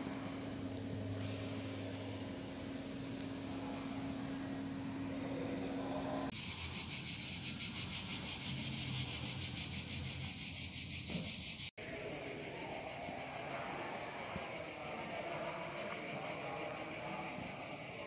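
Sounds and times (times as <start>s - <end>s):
shrill insect chorus: 0.0s - 18.0s.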